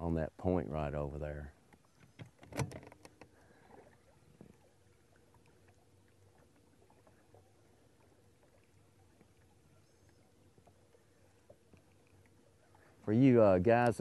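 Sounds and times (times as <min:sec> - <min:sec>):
faint steady hum: 0:00.0 - 0:14.0
faint ticks: 0:01.6 - 0:13.1, 0:13.7 - 0:14.0.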